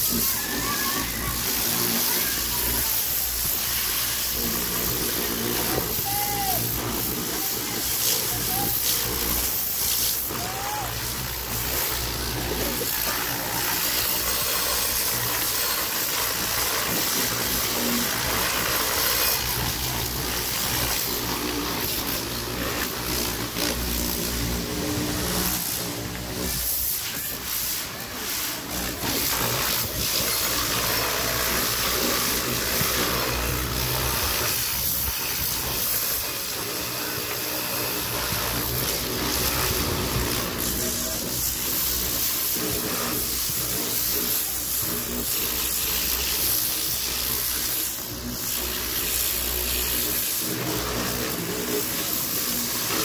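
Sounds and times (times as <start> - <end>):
pump motor humming: 0.0 - 53.0
water jet hissing: 0.0 - 53.0.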